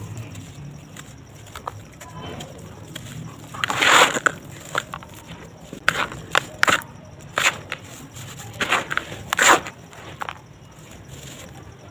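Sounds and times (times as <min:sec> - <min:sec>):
dry cement mix crunching: 0:00.0 - 0:11.9.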